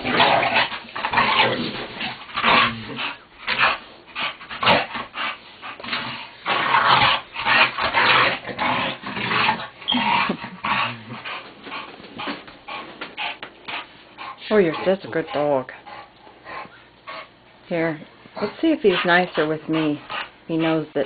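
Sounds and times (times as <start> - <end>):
bulldog making play noises: 0.0 - 17.3, 18.4 - 20.8.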